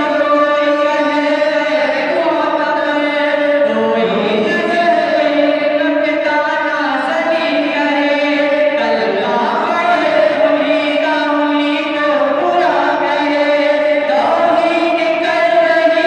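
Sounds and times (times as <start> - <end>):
men singing unaccompanied: 0.0 - 16.0.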